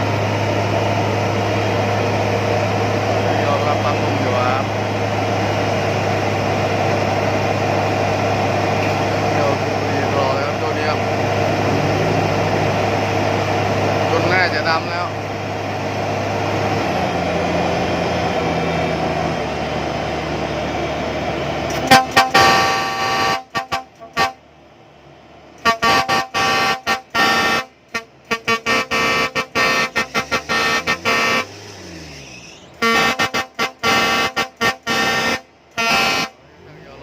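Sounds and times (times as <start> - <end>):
harvester engine running: 0.0 - 37.0
horn toots and blasts: 0.9 - 19.0, 21.7 - 24.6, 25.6 - 37.0.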